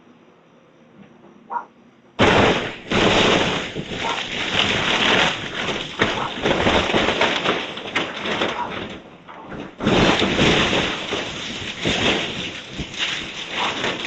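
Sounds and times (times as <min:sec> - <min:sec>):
demolition debris crunching and cracking: 0:02.2 - 0:14.0
timber splintering: 0:02.2 - 0:14.0.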